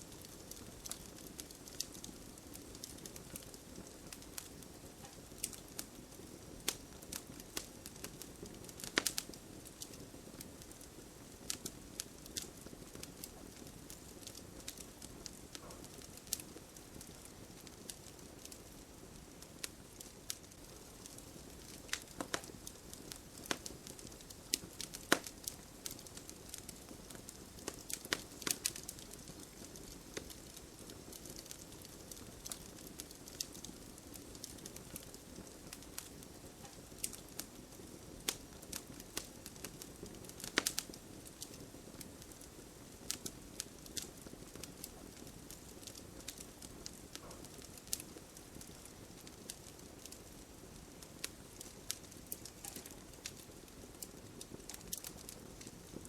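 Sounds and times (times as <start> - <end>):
burning wood crackling and popping: 0.0 - 56.0
campfire hissing: 0.0 - 56.0.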